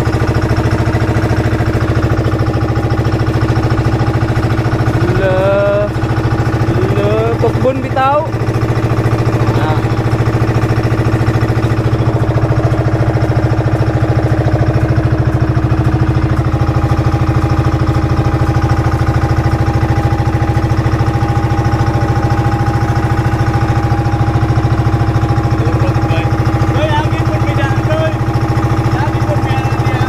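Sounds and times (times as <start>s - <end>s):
boat engine throbbing: 0.0s - 30.0s.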